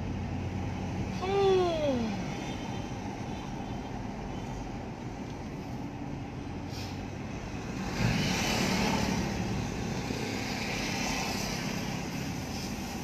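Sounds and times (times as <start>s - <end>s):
road and engine noise in car: 0.0s - 13.0s
trucks passing: 0.0s - 13.0s.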